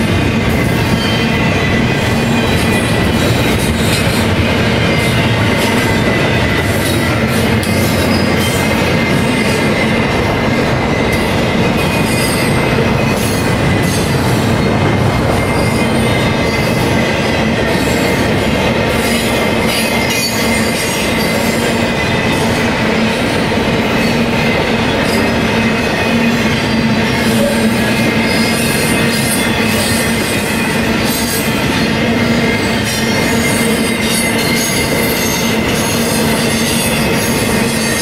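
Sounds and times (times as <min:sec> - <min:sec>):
steel wheels rumbling on rail: 0:00.0 - 0:38.0
high wheel squeal: 0:00.5 - 0:38.0.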